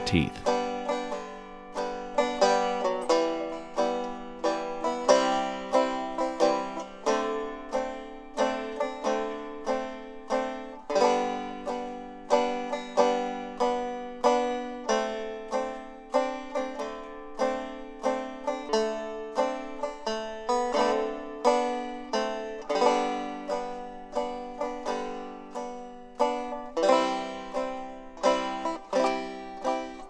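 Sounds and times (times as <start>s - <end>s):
plucked string instrument: 0.0s - 30.0s.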